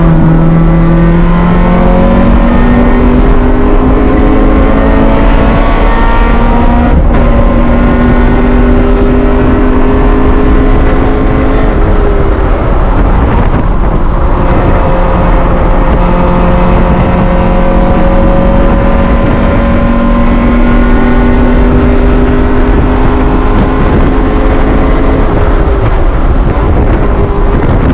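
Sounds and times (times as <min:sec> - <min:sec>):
race car engine revving: 0:00.0 - 0:27.9.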